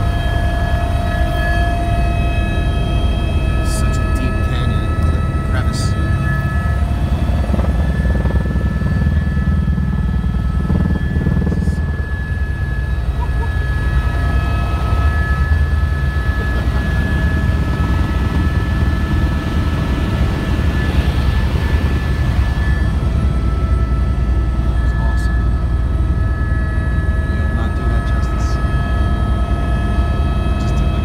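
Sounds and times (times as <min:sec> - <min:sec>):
helicopter rotor drone: 0:00.0 - 0:31.0
high whine: 0:00.0 - 0:31.0.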